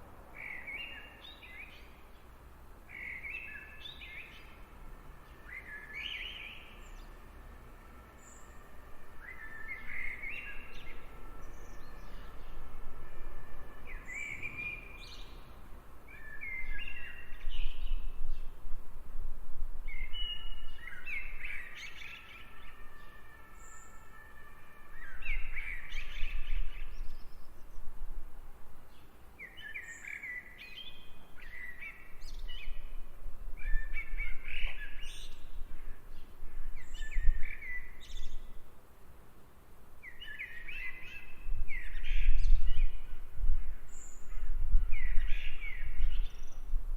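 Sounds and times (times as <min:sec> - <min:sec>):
songbirds chirping: 0:00.0 - 0:18.9, 0:19.8 - 0:46.9.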